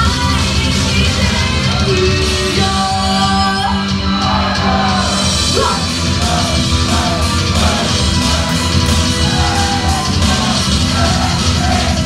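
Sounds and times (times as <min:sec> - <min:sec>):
loud rock music over pa: 0:00.0 - 0:12.0.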